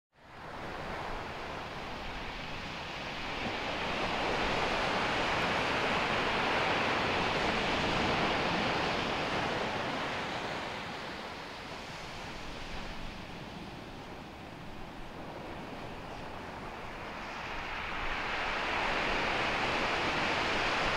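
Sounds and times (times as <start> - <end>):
ocean surf on beach: 0.2 - 20.9.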